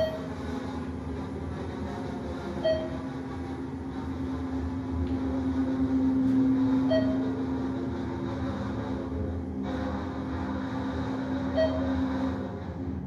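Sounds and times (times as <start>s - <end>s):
elevator hoist machine humming: 0.0s - 13.0s.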